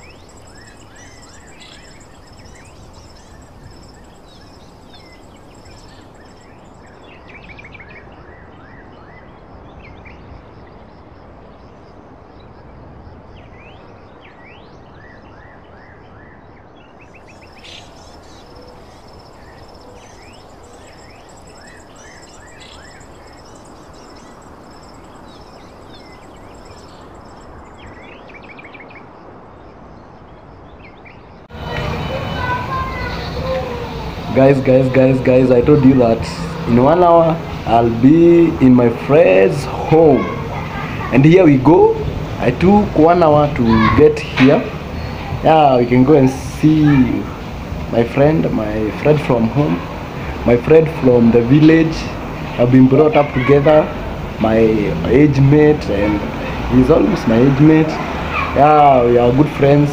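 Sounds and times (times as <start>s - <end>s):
small birds chirping and trilling: 0.0s - 11.0s, 13.4s - 59.9s.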